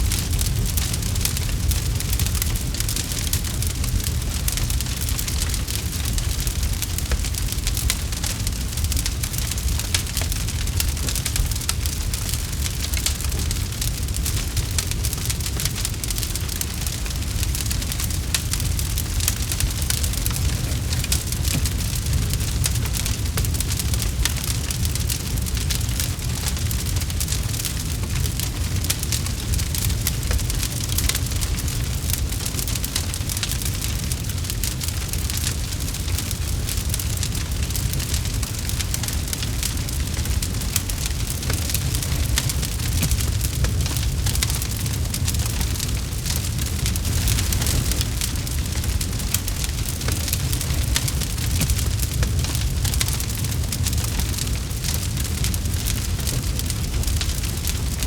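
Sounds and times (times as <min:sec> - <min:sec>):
burning wood crackling: 0:00.0 - 0:58.0
campfire low rumble: 0:00.0 - 0:58.0.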